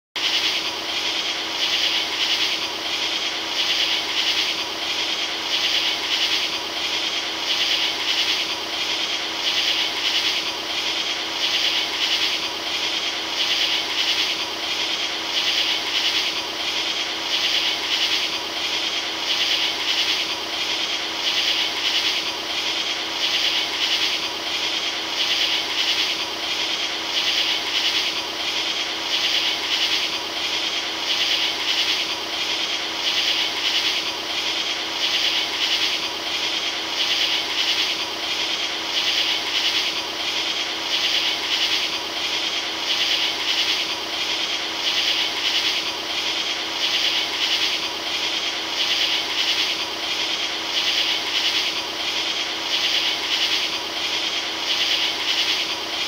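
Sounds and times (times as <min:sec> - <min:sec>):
rhythmic swishing hiss: 0:00.2 - 0:56.0.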